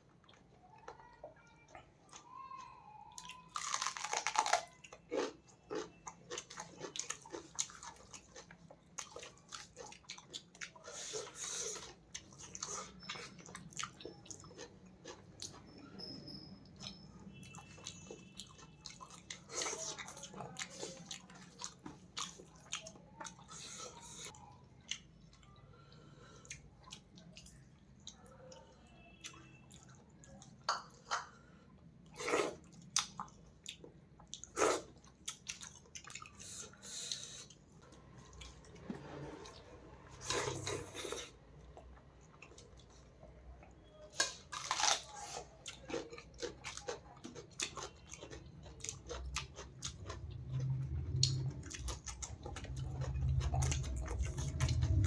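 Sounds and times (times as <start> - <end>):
wet chewing: 3.2 - 16.2, 16.8 - 28.6, 32.1 - 55.0.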